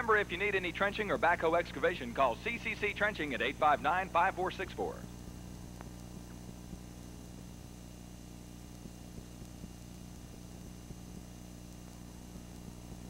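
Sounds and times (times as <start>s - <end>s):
faint tape hiss: 0.0s - 13.0s
low electrical hum: 0.0s - 13.0s.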